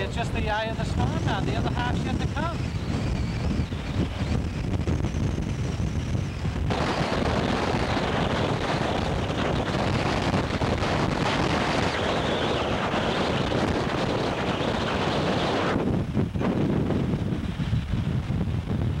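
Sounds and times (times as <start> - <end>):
strong wind on microphone: 0.0 - 19.0.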